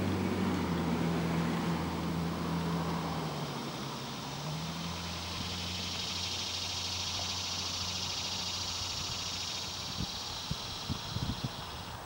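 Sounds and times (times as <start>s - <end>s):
distant diesel train drone: 0.0s - 12.0s
insects buzzing: 0.1s - 12.0s.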